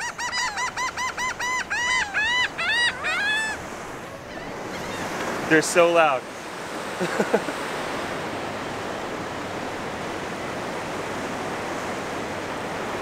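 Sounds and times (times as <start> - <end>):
ocean surf washing onto beach: 2.2 - 13.0.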